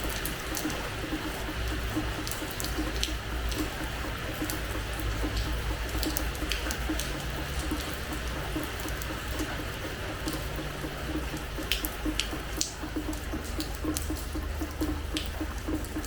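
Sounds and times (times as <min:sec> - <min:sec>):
drops splashing: 0:00.0 - 0:16.0
rain hissing on hard floor: 0:00.0 - 0:16.0
water dripping: 0:00.0 - 0:16.0.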